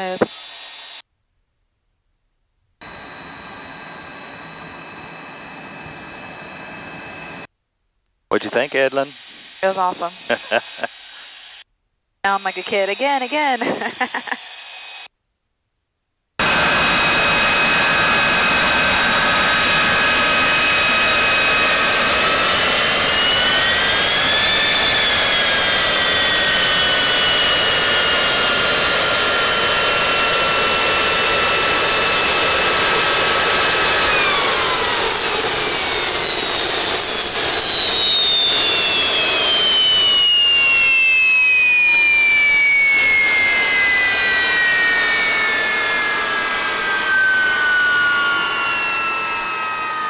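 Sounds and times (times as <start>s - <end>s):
jet engine high whine: 2.8s - 7.5s, 8.3s - 11.6s, 16.4s - 50.0s.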